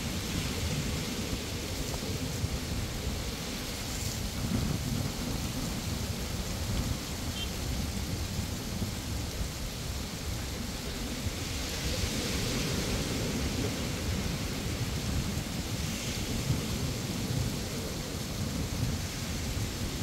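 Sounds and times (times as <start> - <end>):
ocean surf on beach: 0.0 - 20.0
wind rumbling on microphone: 0.0 - 20.0.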